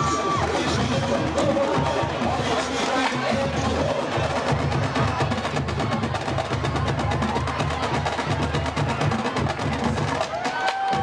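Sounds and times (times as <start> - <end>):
marching band playing: 0.0 - 11.0.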